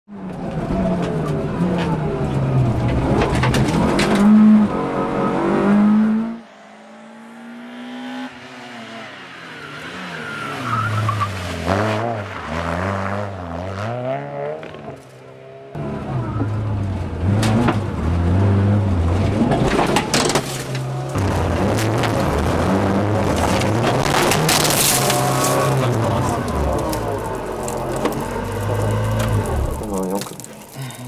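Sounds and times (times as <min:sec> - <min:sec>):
rally car engine revving: 0:00.1 - 0:30.8.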